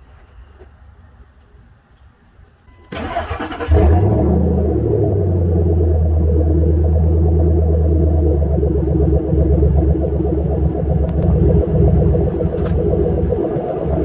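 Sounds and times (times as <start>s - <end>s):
pickup engine rumbling: 2.4s - 14.0s.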